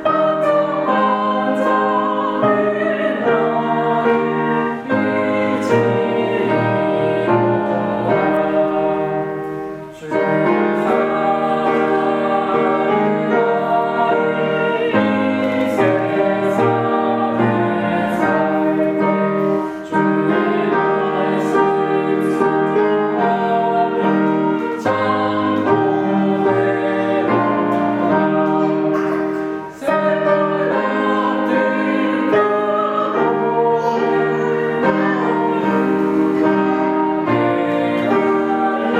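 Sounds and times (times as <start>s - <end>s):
people singing a hymn: 0.0s - 38.9s
piano accompaniment: 0.0s - 38.9s.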